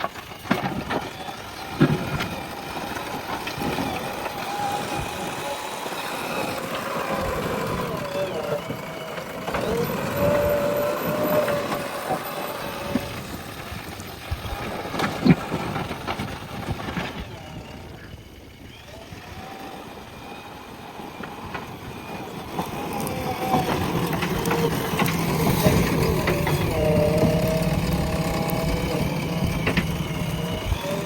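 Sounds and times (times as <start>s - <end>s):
diesel engine and hydraulics: 0.0s - 31.0s.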